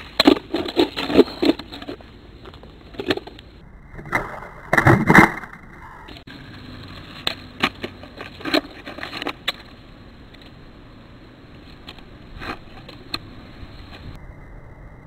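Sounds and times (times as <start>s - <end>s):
skateboard wheels rolling: 0.0s - 15.0s.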